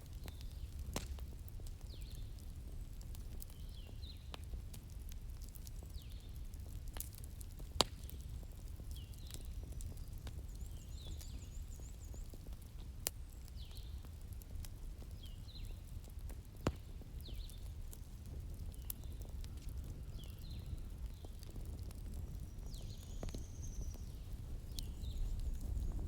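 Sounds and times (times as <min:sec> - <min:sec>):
wood fire crackling and popping: 0:00.0 - 0:26.0
small birds chirping: 0:00.2 - 0:00.8, 0:01.8 - 0:04.6, 0:05.4 - 0:16.2, 0:16.8 - 0:26.0.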